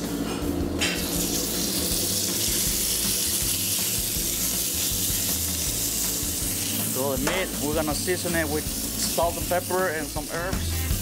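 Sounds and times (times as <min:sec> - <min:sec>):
meat sizzling on a griddle: 0:00.8 - 0:11.0.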